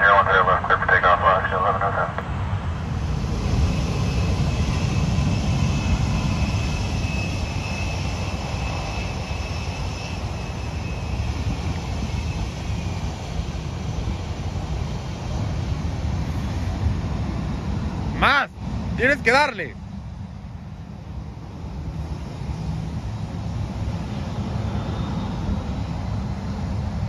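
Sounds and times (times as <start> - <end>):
distant jet engines rumbling: 0.0 - 27.0.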